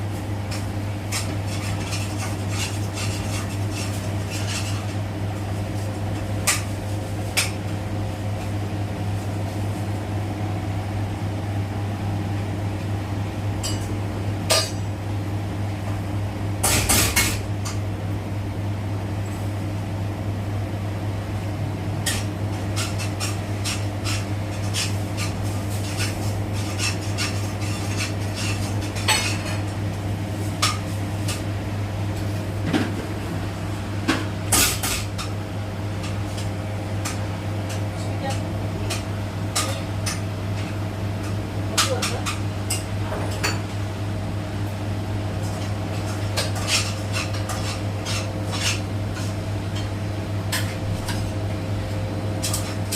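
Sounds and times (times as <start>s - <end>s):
washing machine spinning: 0.0s - 52.9s.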